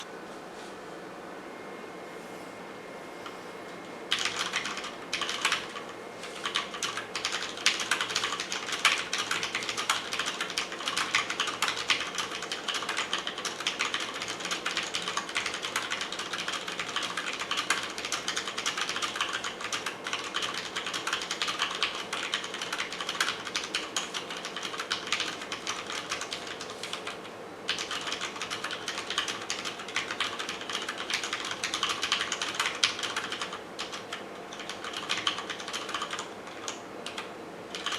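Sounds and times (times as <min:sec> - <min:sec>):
fast typing on mechanical keyboard: 0:04.1 - 0:37.9.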